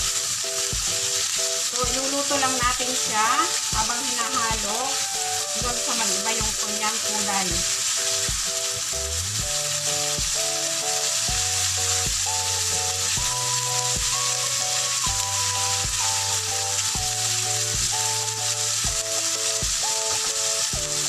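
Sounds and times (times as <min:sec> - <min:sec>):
background music with a beat: 0:00.0 - 0:21.0
meat sizzling in a frying pan: 0:00.0 - 0:21.0
spatula stirring: 0:00.0 - 0:21.0.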